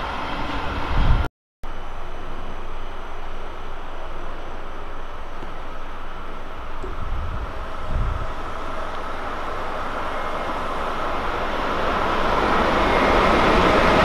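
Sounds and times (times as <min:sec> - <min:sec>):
train approaching on rails: 0:00.0 - 0:14.0.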